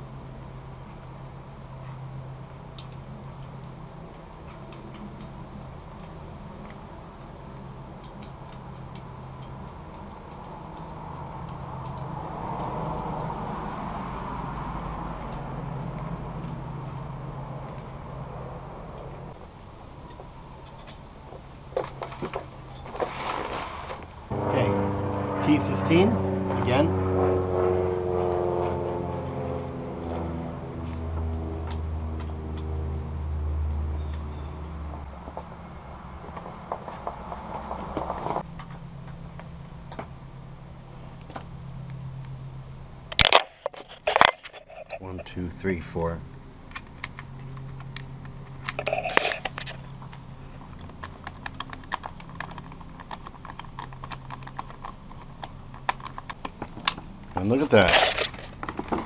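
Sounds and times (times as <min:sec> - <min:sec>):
vehicle engine running: 0:00.0 - 0:23.0, 0:24.0 - 0:59.0
low steady hum: 0:00.0 - 0:59.0.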